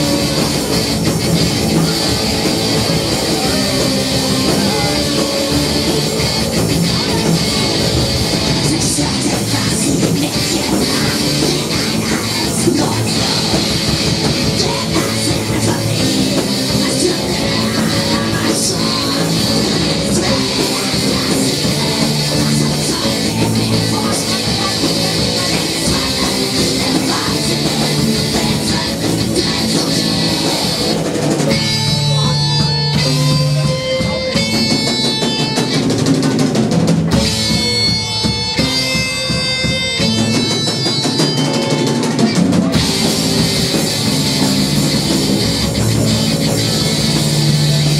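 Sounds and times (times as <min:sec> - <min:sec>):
drums: 0:00.0 - 0:47.9
electric guitar: 0:00.0 - 0:47.9
live rock band playing: 0:00.0 - 0:47.9.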